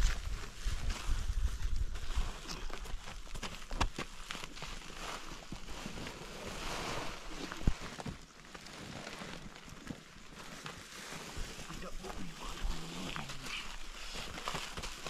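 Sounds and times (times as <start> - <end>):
sacks rustling and scraping: 0.0 - 15.0.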